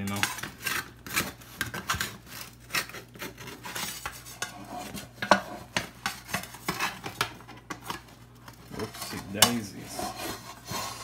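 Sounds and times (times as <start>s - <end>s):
metal spatula scraping pan: 0.0s - 7.2s, 8.7s - 11.0s.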